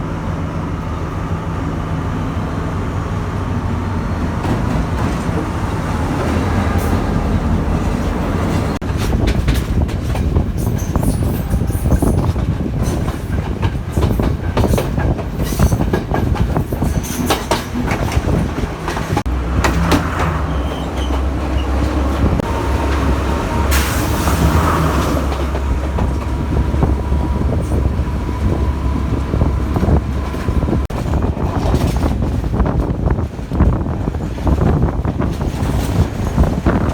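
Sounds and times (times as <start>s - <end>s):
train rumbling: 0.0s - 36.9s
wheels clattering over rail joints: 3.7s - 36.9s.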